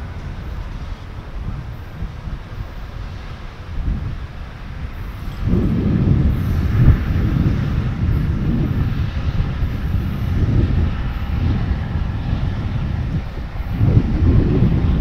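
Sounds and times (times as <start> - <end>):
diesel locomotive rumble: 0.0 - 15.0
train wheels on rails: 0.0 - 15.0.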